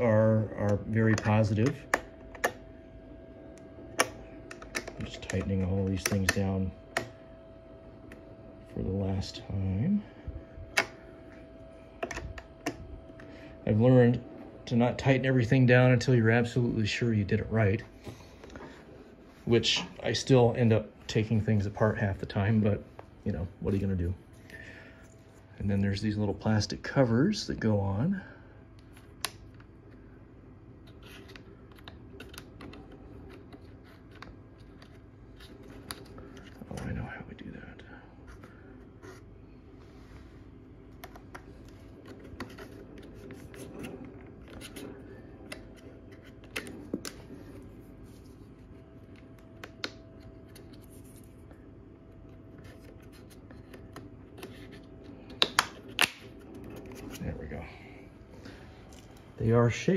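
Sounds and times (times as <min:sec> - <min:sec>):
fridge compressor humming: 0:00.0 - 0:59.9.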